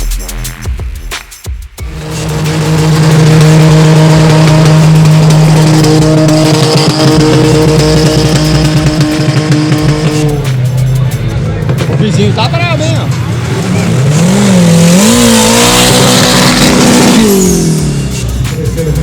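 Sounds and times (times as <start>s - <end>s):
racing car engine at high revs: 1.8s - 19.0s.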